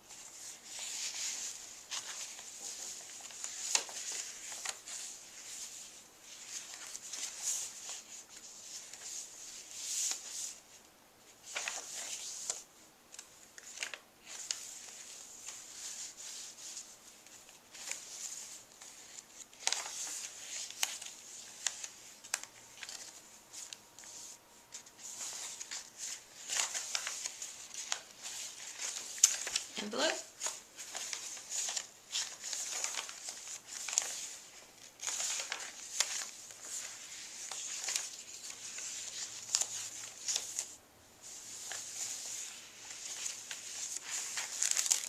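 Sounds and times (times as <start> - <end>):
paper pages rustling: 0.0 - 10.7, 11.3 - 45.0.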